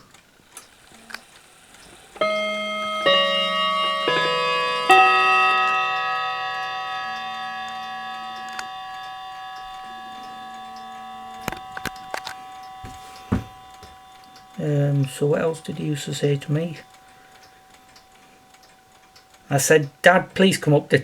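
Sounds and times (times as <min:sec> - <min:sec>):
clock chime rods ringing: 0:00.0 - 0:21.0.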